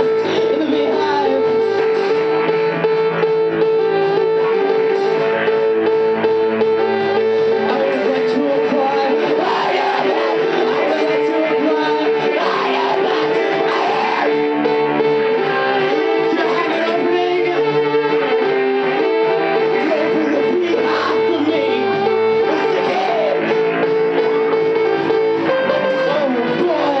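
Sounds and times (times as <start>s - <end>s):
pop band playing: 0.0s - 27.0s.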